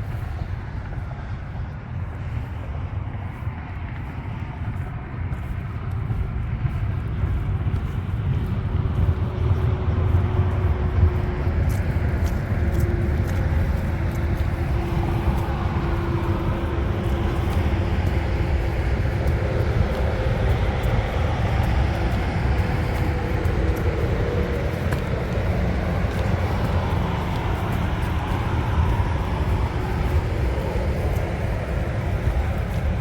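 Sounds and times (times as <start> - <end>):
faint engine hum: 0.0 - 33.0
highway traffic rumble: 0.0 - 33.0.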